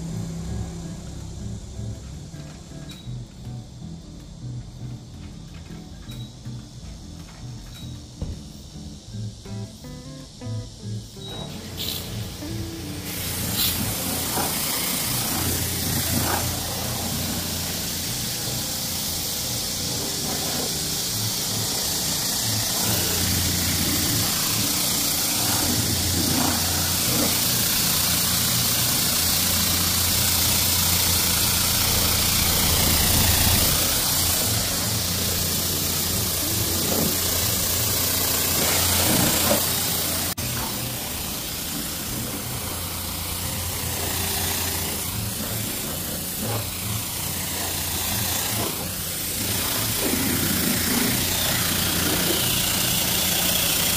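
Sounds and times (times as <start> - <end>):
pressure washer spraying water: 0.0 - 3.2, 7.7 - 53.9
pump motor humming: 0.0 - 53.9.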